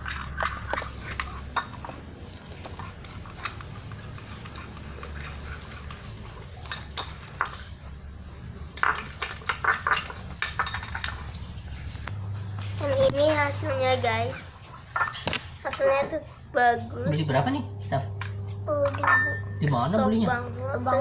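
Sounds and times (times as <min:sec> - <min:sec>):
spoon stirring slime: 0:00.0 - 0:21.0.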